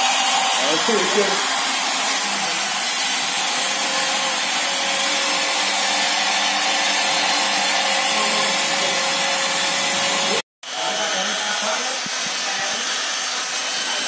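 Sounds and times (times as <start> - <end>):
machine polisher running: 0.0 - 14.0.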